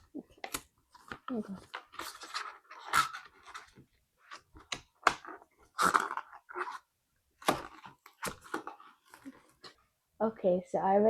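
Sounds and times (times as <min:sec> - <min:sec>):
packaging rustling and scraping: 0:00.3 - 0:09.8.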